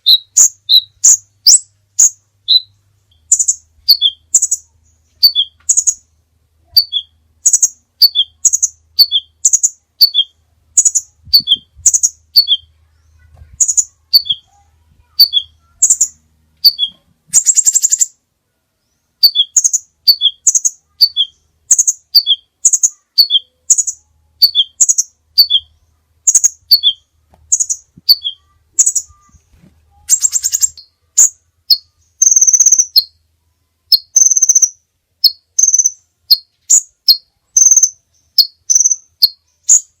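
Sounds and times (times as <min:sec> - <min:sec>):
high bird trill: 0:00.0 - 0:18.2, 0:18.8 - 0:33.2, 0:33.8 - 0:40.0
songbird chirping: 0:00.0 - 0:40.0.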